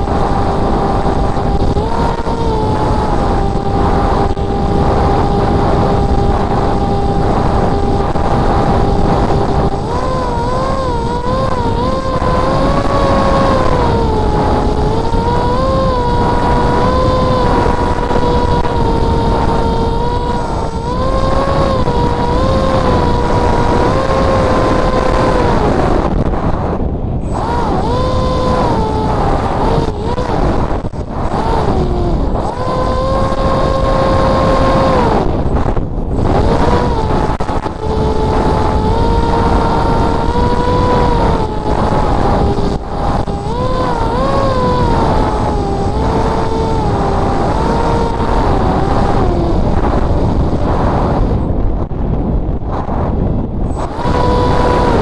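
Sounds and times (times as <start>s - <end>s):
electric motor and propeller whining: 0.0s - 55.0s
wind rush on microphone: 0.0s - 55.0s.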